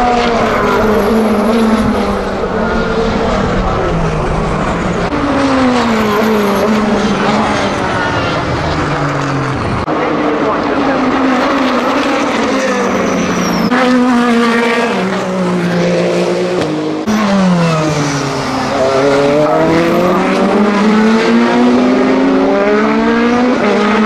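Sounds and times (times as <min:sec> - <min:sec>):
race car engine passing: 0:00.0 - 0:24.0.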